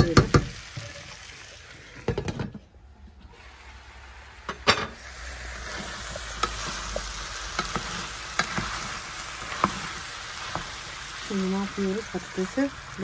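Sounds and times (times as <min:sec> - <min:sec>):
food sizzling in a pan: 0:00.0 - 0:02.4, 0:03.3 - 0:13.0.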